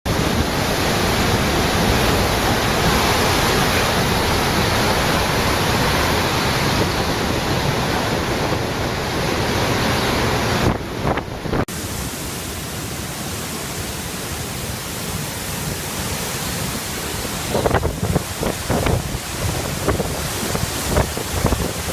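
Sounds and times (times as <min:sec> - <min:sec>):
loud rushing wind: 0:00.1 - 0:21.9.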